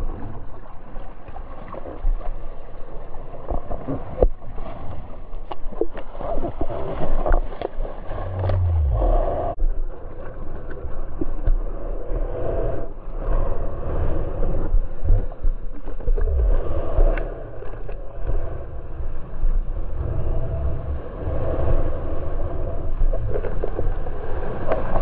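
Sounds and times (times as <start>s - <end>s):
ocean water sloshing and splashing: 0.0s - 25.0s
small waves slapping camera: 0.0s - 25.0s.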